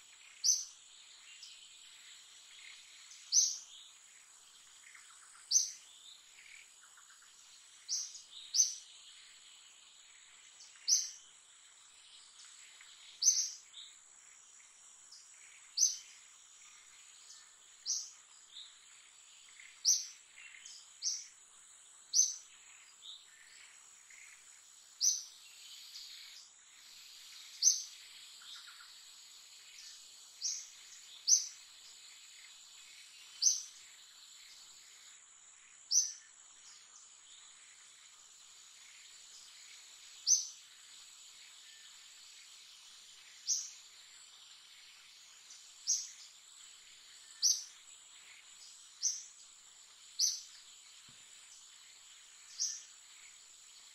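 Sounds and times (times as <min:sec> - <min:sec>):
high insect drone: 0:00.0 - 0:53.9.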